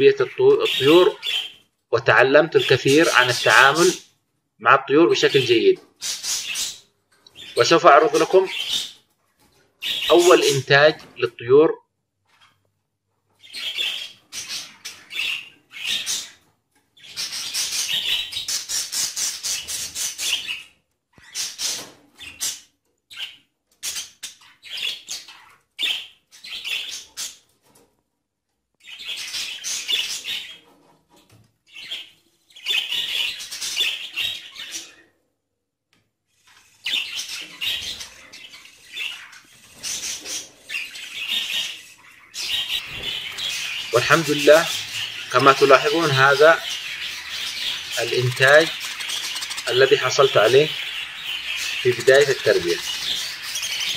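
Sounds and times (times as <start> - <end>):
budgerigars chirping and warbling: 0.0 - 4.1, 4.9 - 9.1, 9.8 - 11.1, 13.4 - 27.5, 28.8 - 30.9, 31.7 - 35.0, 36.4 - 53.9.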